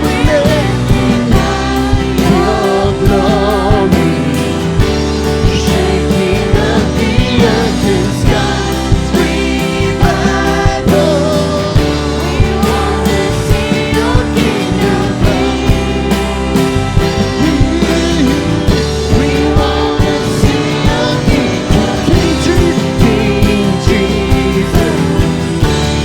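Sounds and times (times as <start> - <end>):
steady drum beat: 0.0 - 26.0
worship band playing: 0.0 - 26.0.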